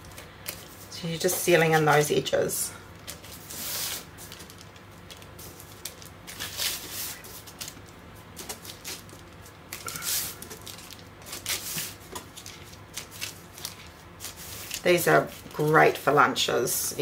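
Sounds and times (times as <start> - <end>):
baking paper crinkling: 0.0 - 16.4.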